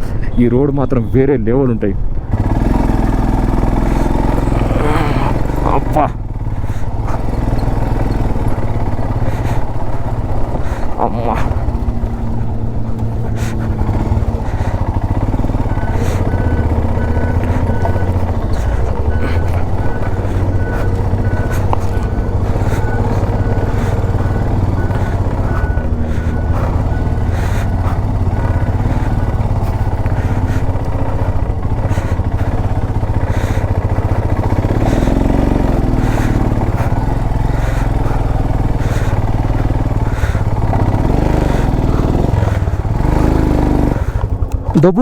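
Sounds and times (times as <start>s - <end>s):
motorcycle engine running: 2.0s - 45.0s.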